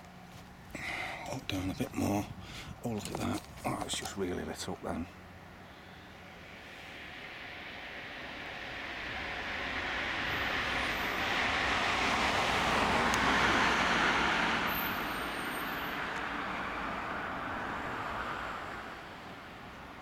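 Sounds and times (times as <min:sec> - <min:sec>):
vehicle passing: 0:00.8 - 0:20.0.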